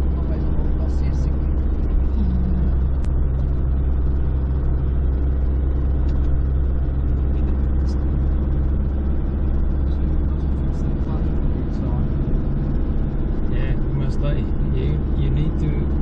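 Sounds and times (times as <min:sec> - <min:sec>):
car engine drone: 0:00.0 - 0:16.0
road noise: 0:00.0 - 0:16.0.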